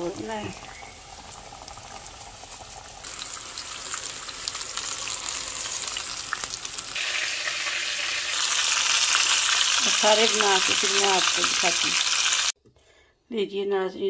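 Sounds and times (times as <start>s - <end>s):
food deep-frying in hot oil: 0.0s - 12.6s
oil crackling and popping: 0.0s - 12.6s.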